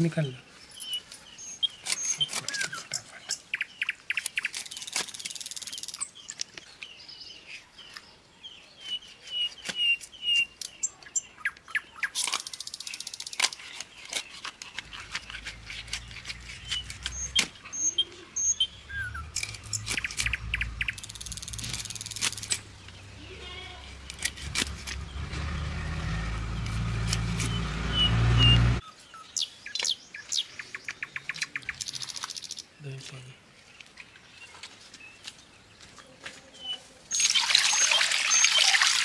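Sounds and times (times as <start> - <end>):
small birds chirping: 0.0 - 38.8.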